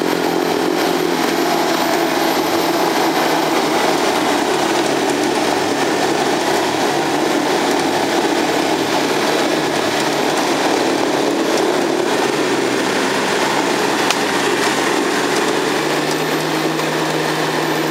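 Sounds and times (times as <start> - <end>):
diesel engine running under load: 0.0 - 17.9.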